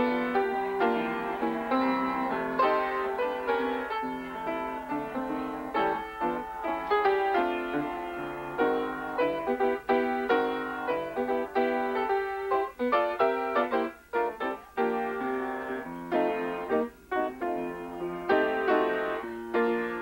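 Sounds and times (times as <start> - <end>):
solo piano tune: 0.0 - 20.0.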